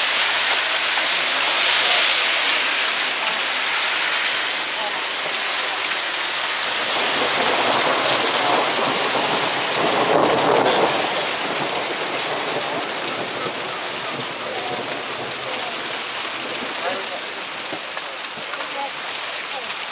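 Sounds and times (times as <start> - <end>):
heavy rain on wet pavement: 0.0 - 19.9.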